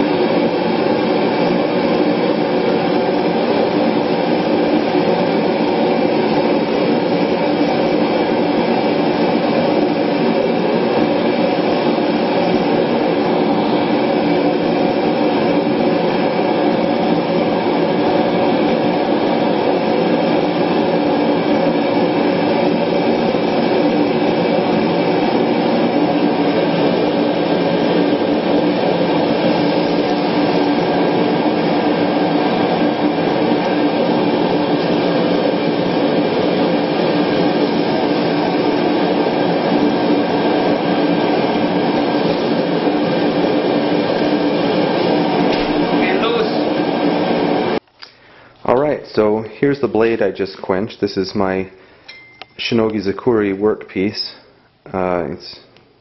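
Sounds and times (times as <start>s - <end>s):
gas forge burner roaring: 0.0s - 56.0s.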